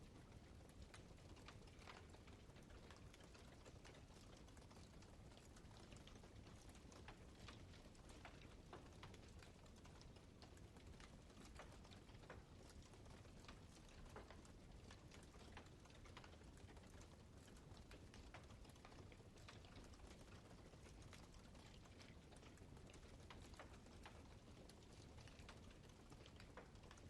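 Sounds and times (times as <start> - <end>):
wood crackling and popping: 0.2 - 27.0.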